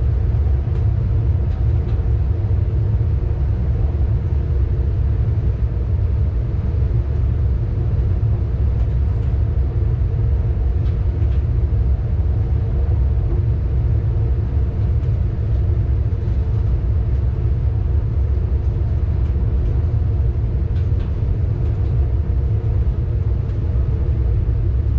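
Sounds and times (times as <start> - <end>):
faint hum: 0.0 - 24.9
train running rumble: 0.0 - 24.9.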